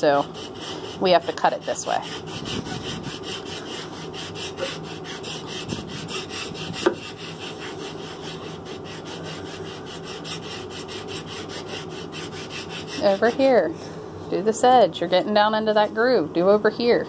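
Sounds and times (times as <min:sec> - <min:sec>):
rasp scraping wood: 0:00.0 - 0:13.7, 0:14.6 - 0:16.2.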